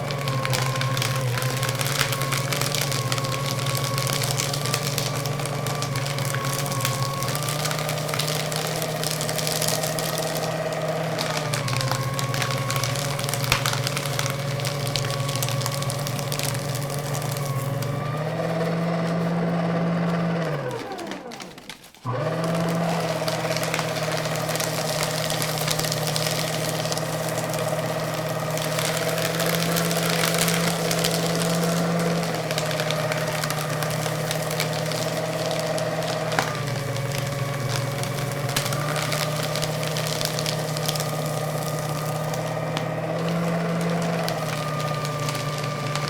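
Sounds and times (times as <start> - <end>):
cut paper crackling rustle: 0.0 - 46.0
paper shredder motor hum: 0.0 - 46.0.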